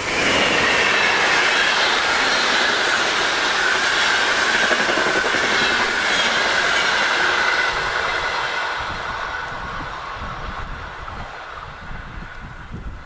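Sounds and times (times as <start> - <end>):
high train whine: 0.0 - 13.0
train wheels rumbling on rails: 0.0 - 13.0.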